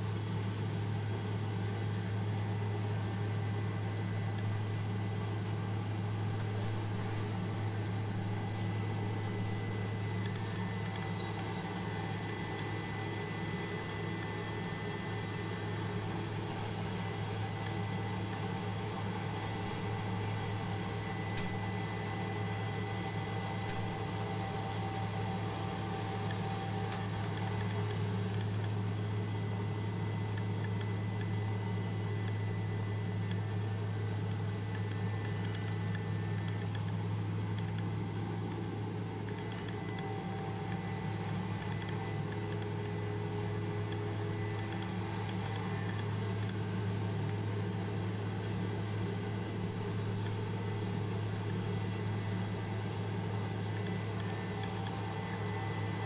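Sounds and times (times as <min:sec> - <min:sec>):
helicopter engine and rotor hum: 0:00.0 - 0:56.0.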